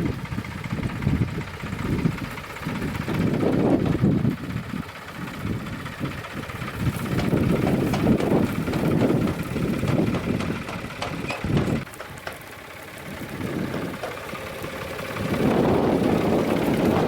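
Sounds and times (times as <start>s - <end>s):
tractor engine rumble: 0.0s - 17.0s.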